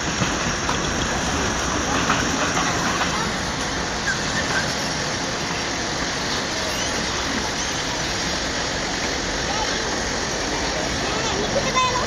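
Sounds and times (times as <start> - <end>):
train wheels on rail: 0.0 - 12.0.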